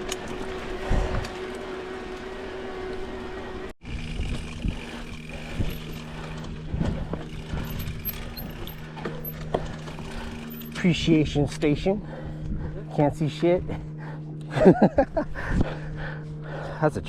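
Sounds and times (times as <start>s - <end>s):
bike tyre and drivetrain noise: 0.0s - 14.4s.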